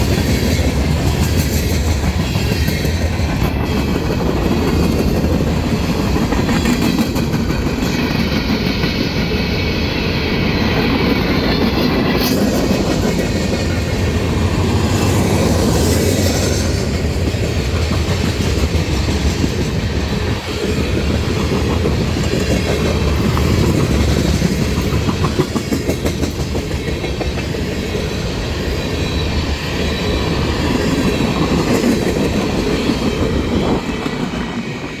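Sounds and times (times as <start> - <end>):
train rumble: 0.0 - 35.0
train wheels clattering over rails: 0.0 - 35.0.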